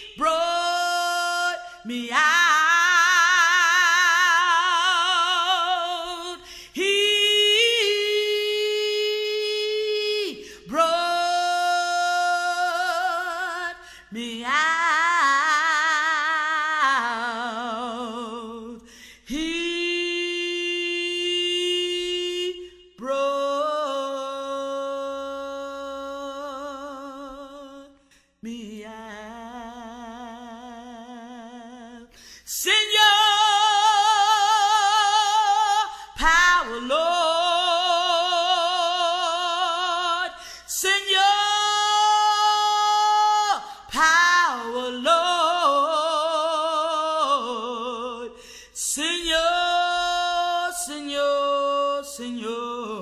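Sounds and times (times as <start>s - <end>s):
woman singing unaccompanied: 0.0s - 53.0s.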